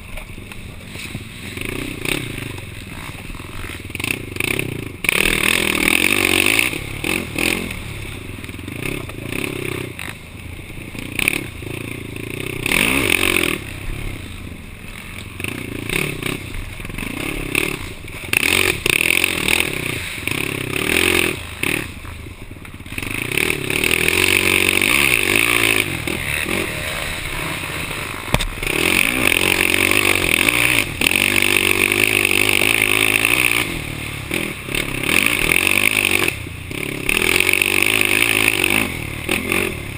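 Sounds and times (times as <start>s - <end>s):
quad engine revving: 0.8s - 39.9s.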